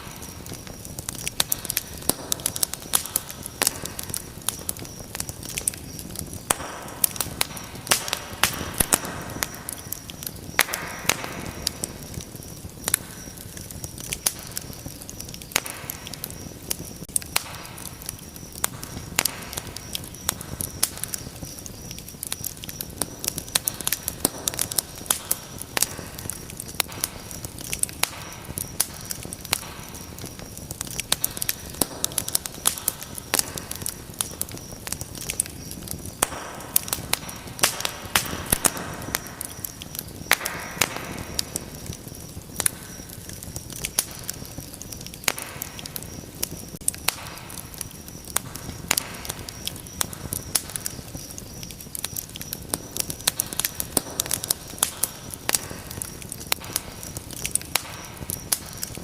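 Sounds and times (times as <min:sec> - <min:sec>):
sharp pops and snaps: 0:00.0 - 0:59.0
wood fire crackling: 0:00.0 - 0:59.0.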